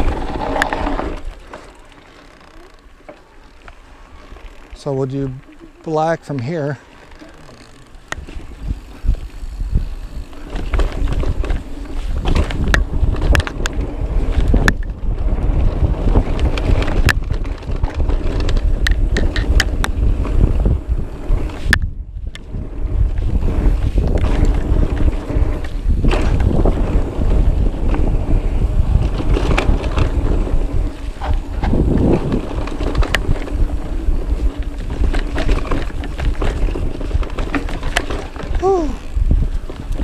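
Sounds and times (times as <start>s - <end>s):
wind buffeting microphone: 0.0s - 1.6s, 6.0s - 40.0s
clicks and knocks from bike: 0.0s - 4.8s, 6.3s - 20.6s, 21.4s - 40.0s
mountain bike rattling downhill: 0.0s - 40.0s.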